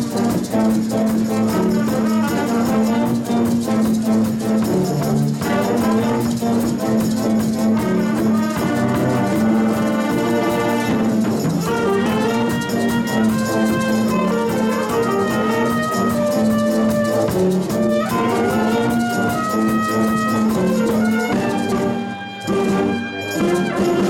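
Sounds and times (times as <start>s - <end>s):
jazz band playing: 0.0s - 24.0s.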